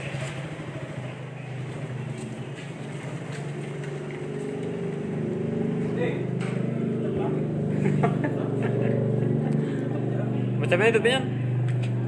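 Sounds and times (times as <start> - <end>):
engine droning hum: 0.0 - 12.0.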